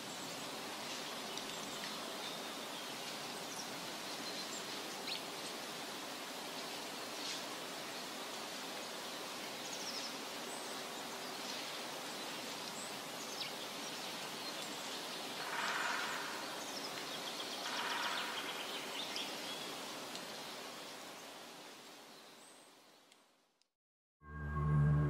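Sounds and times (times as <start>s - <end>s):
steady forest hiss: 0.0s - 23.6s.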